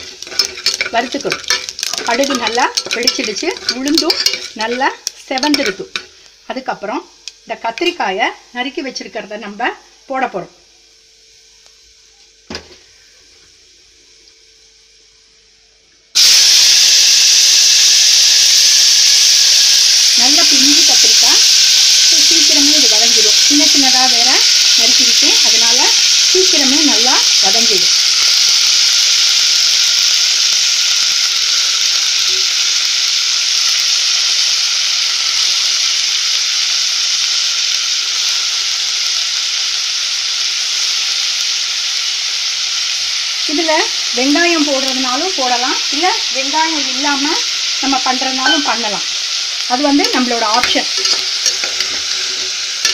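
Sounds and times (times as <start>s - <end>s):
vegetables sizzling in hot oil: 0.0s - 52.9s.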